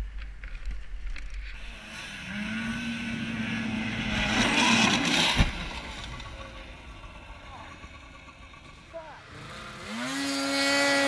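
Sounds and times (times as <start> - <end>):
snowmobile engine high revs: 1.6 - 11.0.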